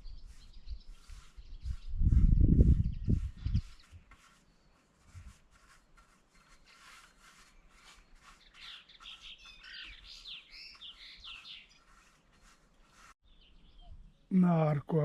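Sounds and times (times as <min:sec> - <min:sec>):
small songbirds chirping: 0:00.0 - 0:14.7.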